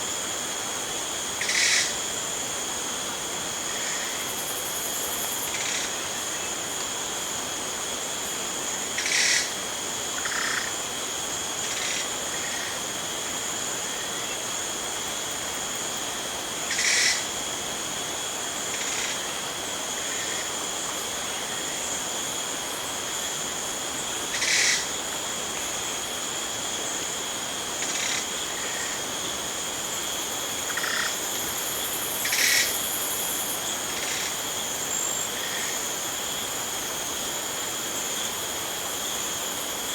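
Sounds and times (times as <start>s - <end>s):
crickets droning: 0.0s - 39.9s.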